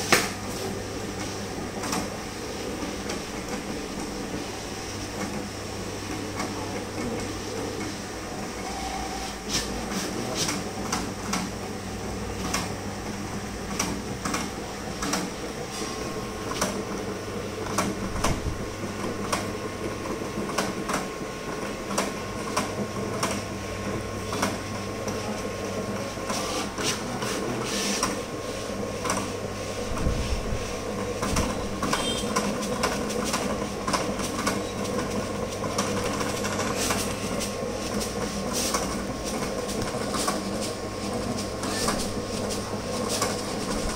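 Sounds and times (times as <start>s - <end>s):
cutting plotter motor hum: 0.0s - 43.9s.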